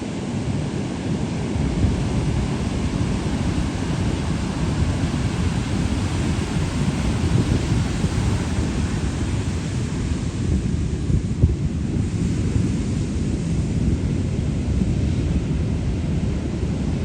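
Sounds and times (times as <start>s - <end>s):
surf breaking and rumbling: 0.0s - 17.0s
wind buffeting microphone: 0.0s - 17.0s.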